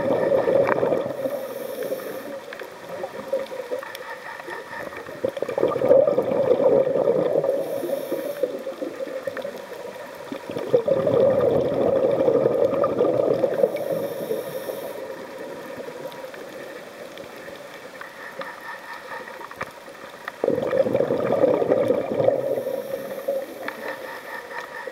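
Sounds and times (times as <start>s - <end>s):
regulator bubbling underwater: 0.0s - 3.8s, 4.8s - 17.4s, 20.4s - 24.9s
water noise: 0.0s - 24.9s.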